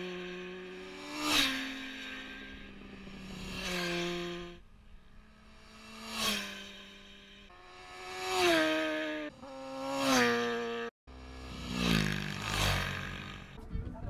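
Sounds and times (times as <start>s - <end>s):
motorcycles passing at speed: 0.0s - 14.0s.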